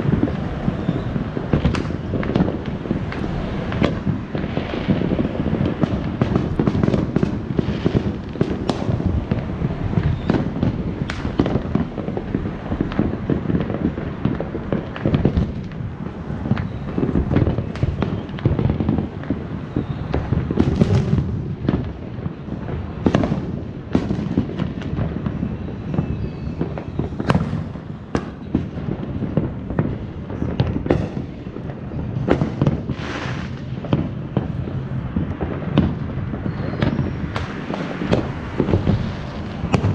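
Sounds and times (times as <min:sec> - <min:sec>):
fireworks crackling and rumbling: 0:00.0 - 0:39.9
sharp firework bangs: 0:00.0 - 0:39.9.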